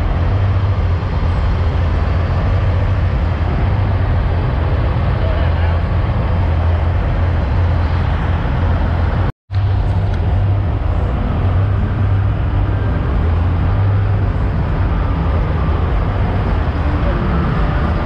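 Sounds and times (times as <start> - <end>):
diesel truck engines idling: 0.0 - 18.0.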